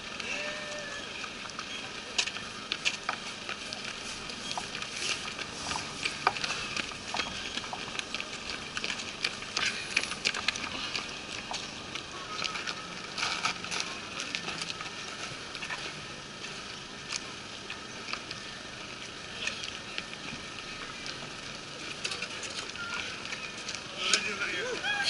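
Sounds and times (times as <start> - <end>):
running footsteps on wet asphalt: 0.2 - 25.0.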